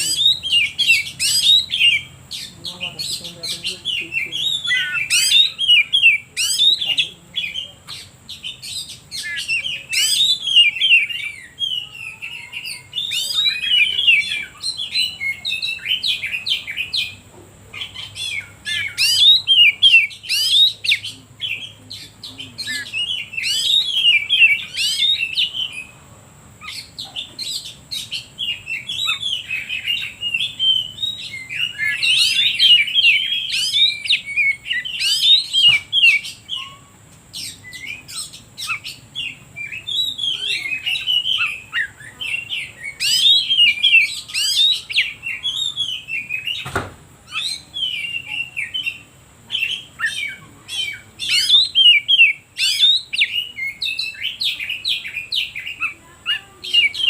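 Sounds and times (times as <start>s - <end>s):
magpie-robin singing: 0.0s - 26.0s, 26.6s - 57.0s.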